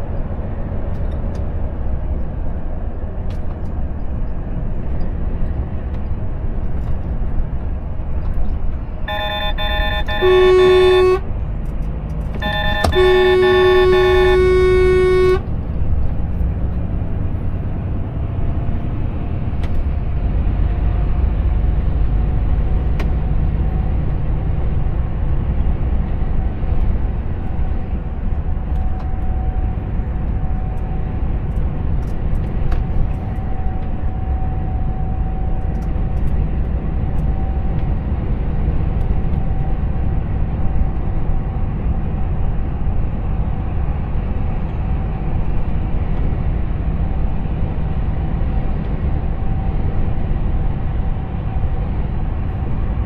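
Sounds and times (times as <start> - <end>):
diesel truck engine rumble: 0.0 - 53.0.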